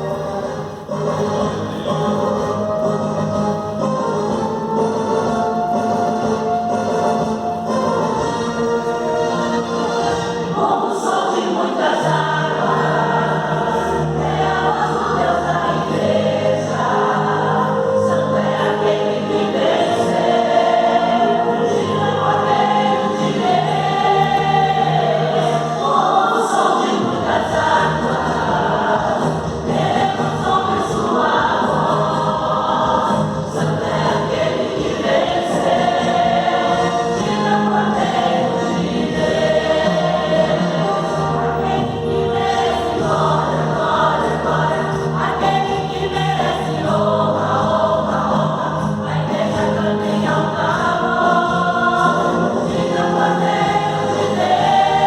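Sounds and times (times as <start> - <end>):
choir singing with accompaniment: 0.0 - 55.0.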